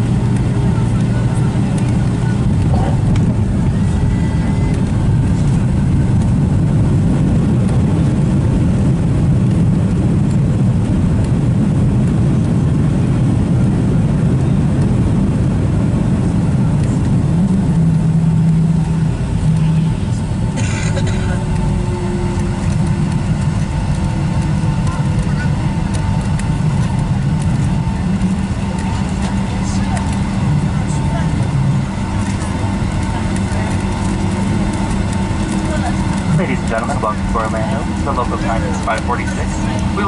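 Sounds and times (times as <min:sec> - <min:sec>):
airplane cabin rumble: 0:00.0 - 0:40.0.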